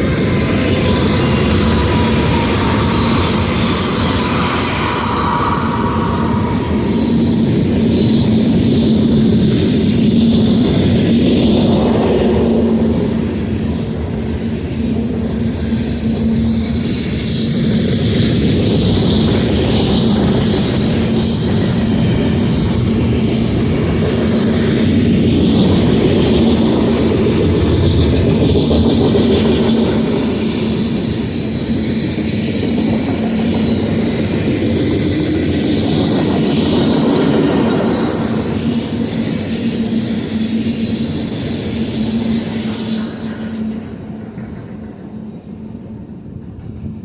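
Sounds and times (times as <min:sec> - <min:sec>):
freight train wheels rumbling on rail: 0:00.0 - 0:47.0.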